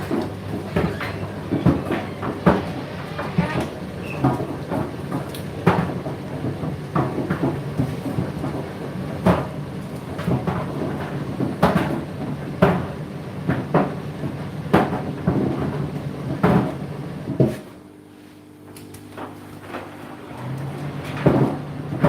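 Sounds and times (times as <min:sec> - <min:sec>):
tumble dryers running: 0:00.0 - 0:22.0.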